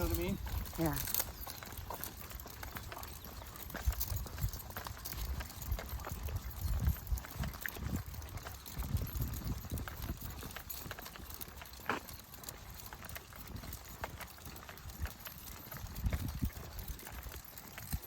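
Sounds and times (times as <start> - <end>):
footsteps on trail: 0.0 - 18.0.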